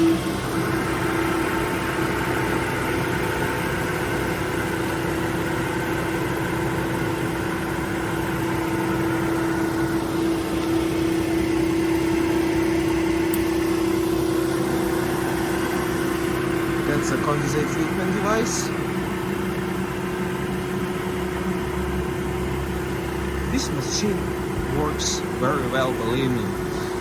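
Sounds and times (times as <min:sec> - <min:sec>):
air compressor humming: 0:00.0 - 0:27.0.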